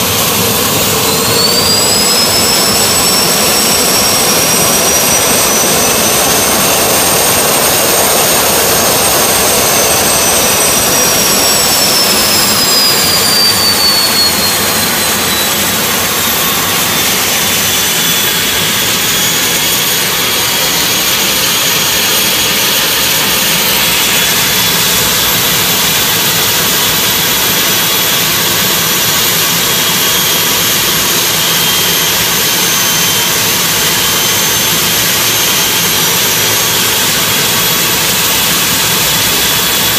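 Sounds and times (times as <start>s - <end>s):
gas turbine running with high whine: 0.0s - 39.9s.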